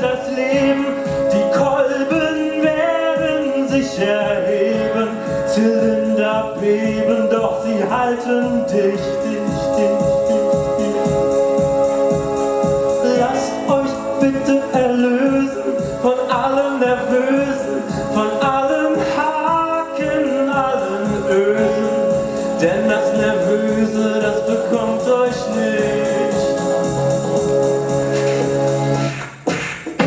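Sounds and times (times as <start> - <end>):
person singing: 0.0 - 29.1
live music with steady beat: 0.0 - 30.0.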